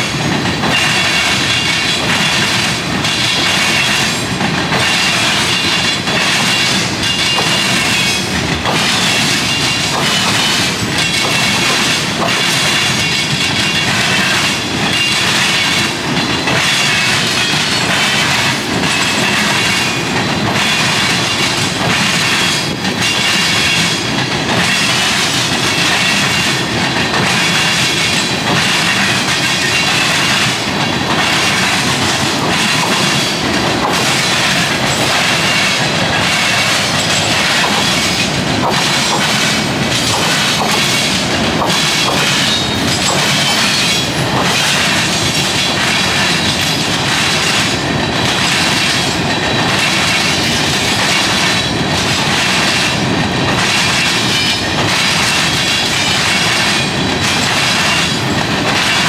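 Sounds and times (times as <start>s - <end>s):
train wheels clattering over crossing: 0.0s - 59.0s.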